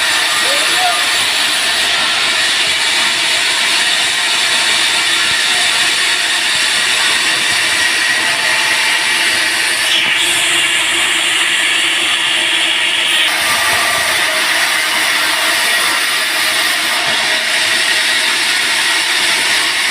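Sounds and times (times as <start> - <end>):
band saw running: 0.0 - 19.9.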